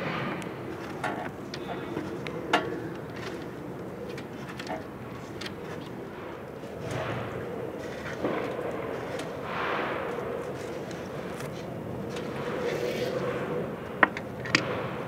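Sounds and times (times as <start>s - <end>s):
city background noise: 0.0s - 15.0s.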